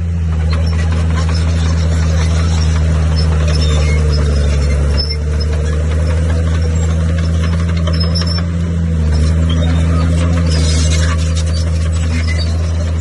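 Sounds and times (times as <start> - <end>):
diesel engine droning: 0.0 - 13.0
faint high squeaks: 0.3 - 13.0.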